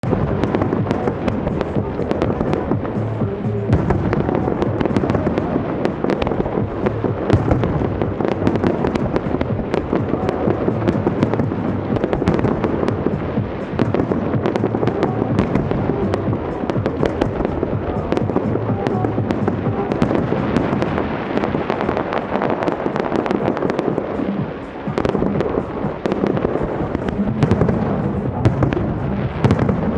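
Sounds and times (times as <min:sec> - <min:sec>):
fireworks crackling and banging: 0:00.0 - 0:29.9.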